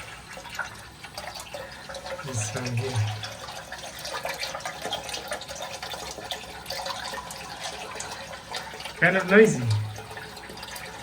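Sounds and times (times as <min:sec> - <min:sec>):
water rushing into toilet tank: 0:00.0 - 0:11.0.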